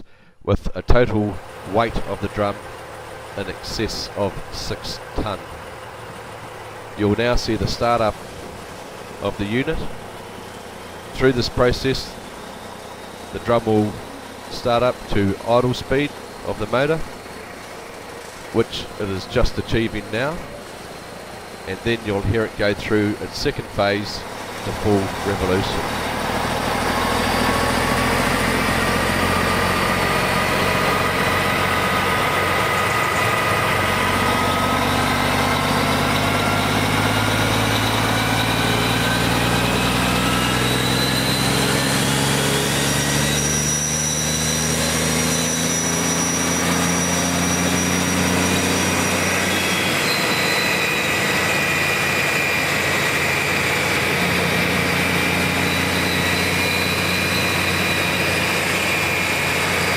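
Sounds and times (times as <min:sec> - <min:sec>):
diesel engine droning: 0:00.0 - 0:59.9
mulching drum whine: 0:01.3 - 0:59.9.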